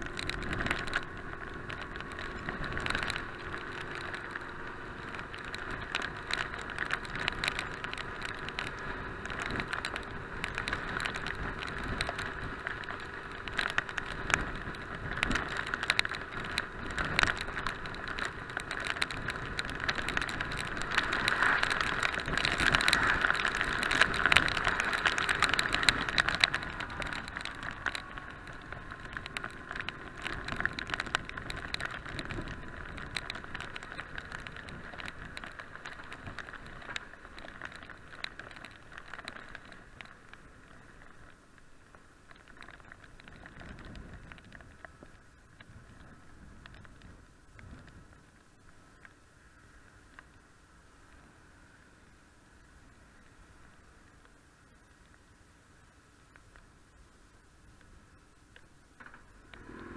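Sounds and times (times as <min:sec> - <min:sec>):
rain ticking on camera: 0:00.0 - 0:59.9
tyre noise on wet road: 0:00.0 - 0:59.9
wind: 0:00.0 - 0:59.9.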